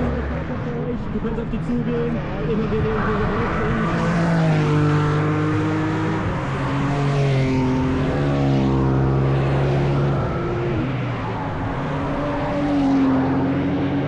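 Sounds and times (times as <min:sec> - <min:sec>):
race cars passing: 0:00.0 - 0:14.0.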